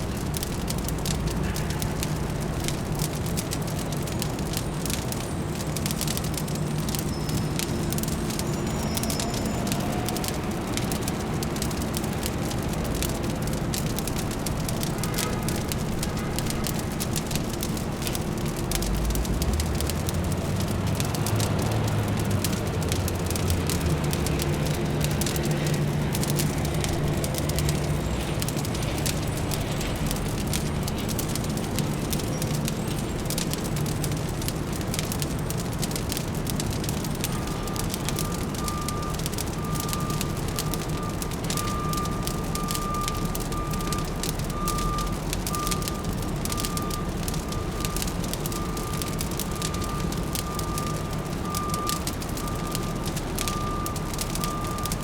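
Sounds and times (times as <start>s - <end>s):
fire crackling and popping: 0.0s - 55.0s
low city hum: 0.0s - 55.0s.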